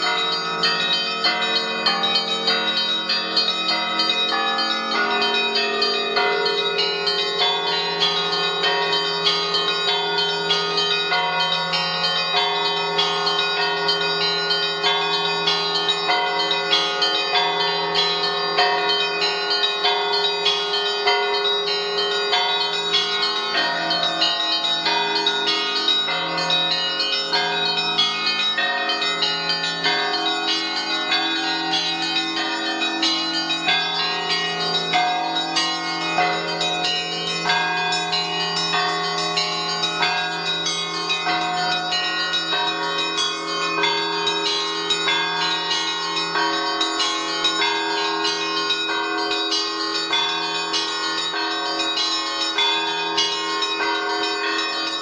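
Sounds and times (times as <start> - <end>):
high bells pealing: 0.0 - 55.0.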